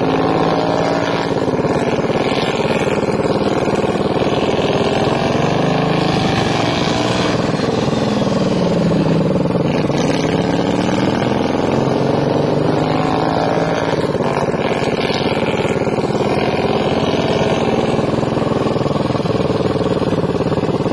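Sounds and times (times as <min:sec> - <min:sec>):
lawn mower engine revving: 0:00.0 - 0:20.9.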